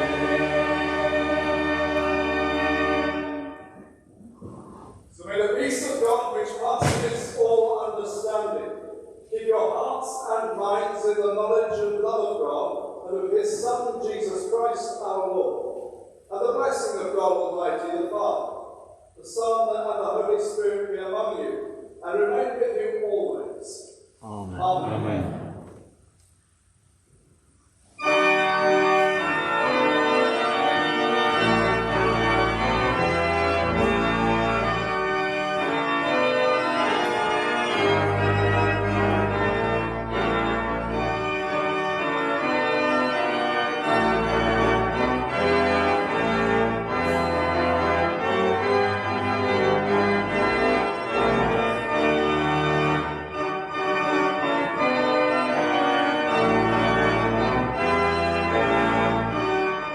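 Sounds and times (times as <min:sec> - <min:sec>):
organ playing chords: 0:00.0 - 0:23.6, 0:24.3 - 0:25.8, 0:27.8 - 0:59.9.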